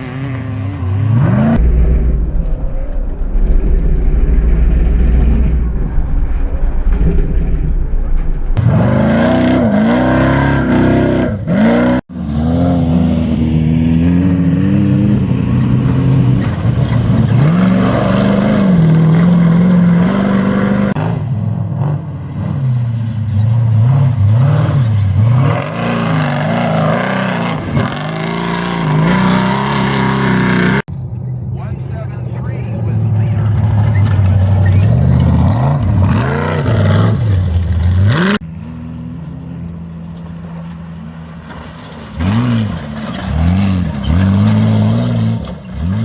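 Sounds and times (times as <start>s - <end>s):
race vehicle engines revving: 0.0s - 2.4s, 8.6s - 46.0s.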